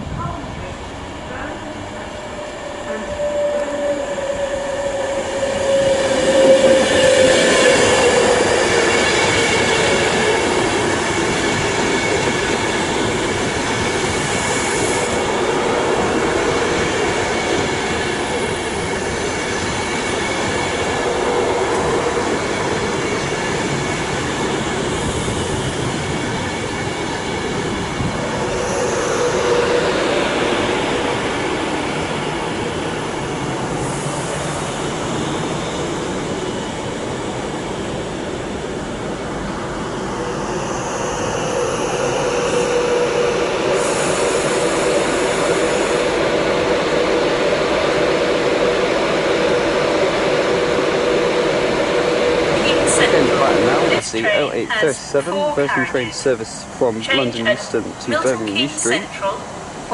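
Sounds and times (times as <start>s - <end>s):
train wheels rushing on rail: 0.0s - 59.9s.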